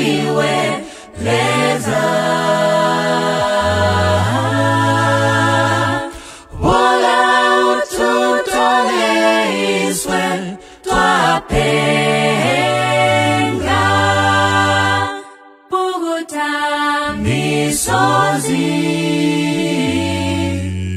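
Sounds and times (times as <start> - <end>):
a cappella group singing: 0.0 - 20.9.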